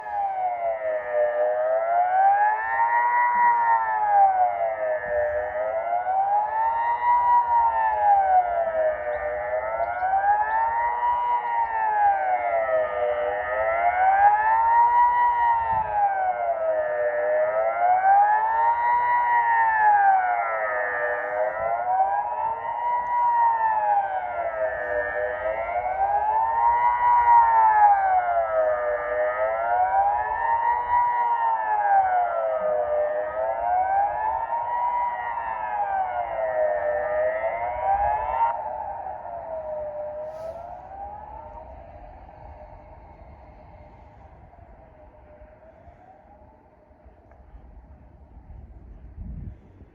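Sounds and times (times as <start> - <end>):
civil defence siren wailing: 0.0 - 49.9.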